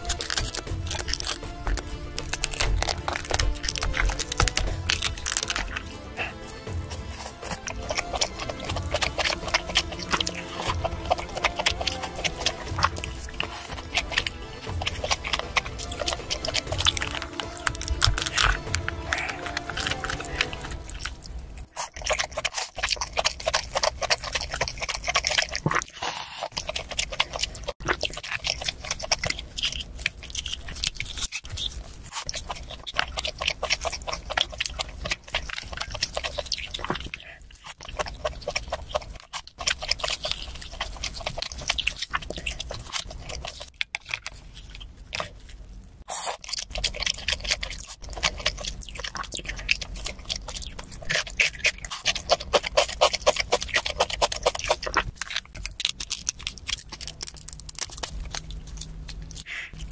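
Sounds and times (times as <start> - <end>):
wet chewing and slurping: 0.0 - 59.9.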